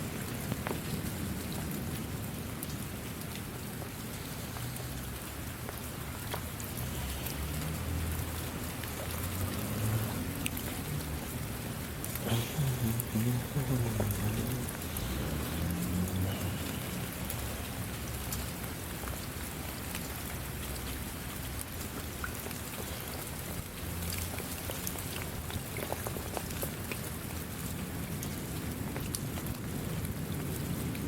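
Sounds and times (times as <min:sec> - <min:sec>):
rain drops tapping: 0:00.0 - 0:31.0
rain falling: 0:00.0 - 0:31.0.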